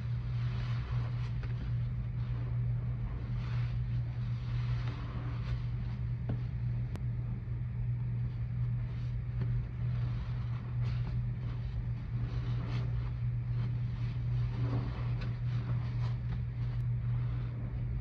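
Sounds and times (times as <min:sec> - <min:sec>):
soapy sponge squelching: 0:00.0 - 0:06.4, 0:08.8 - 0:18.0
steady low hum: 0:00.0 - 0:18.0.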